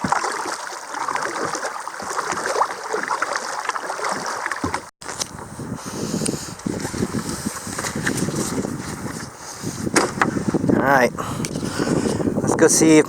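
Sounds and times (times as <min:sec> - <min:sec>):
kayak paddle strokes: 0:00.0 - 0:12.5
water splashing and gurgling: 0:00.0 - 0:13.0.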